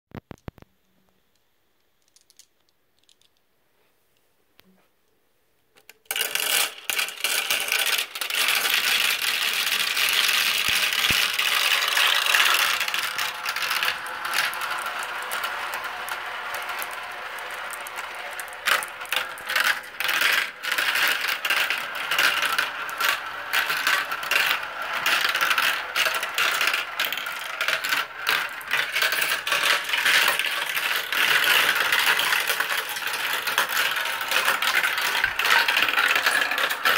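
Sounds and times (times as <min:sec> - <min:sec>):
marbles clicking down a marble run: 0:02.0 - 0:03.3, 0:05.8 - 0:36.9
dense clatter of clicks: 0:05.8 - 0:36.9.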